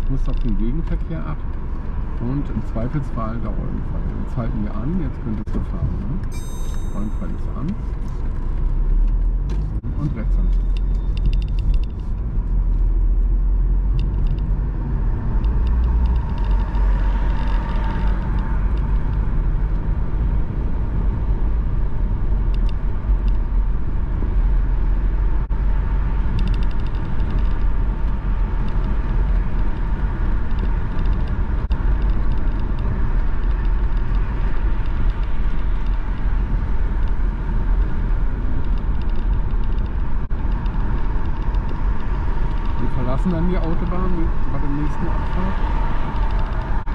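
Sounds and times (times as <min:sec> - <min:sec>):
car engine rumble: 0:00.0 - 0:46.9.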